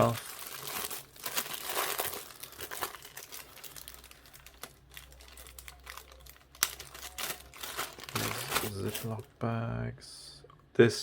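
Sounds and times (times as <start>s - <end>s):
plastic bags crinkling: 0.0s - 9.3s.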